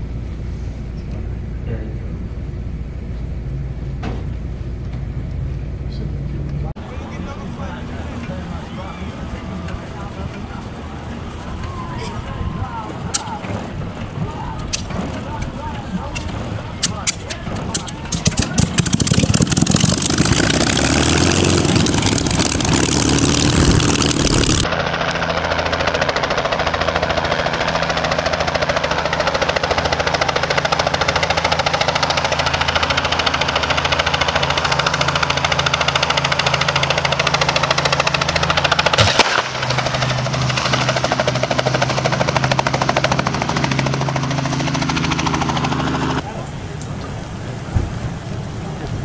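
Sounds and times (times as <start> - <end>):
piston engine with propeller: 0.0 - 49.0
helicopter rotor beating: 6.7 - 49.0.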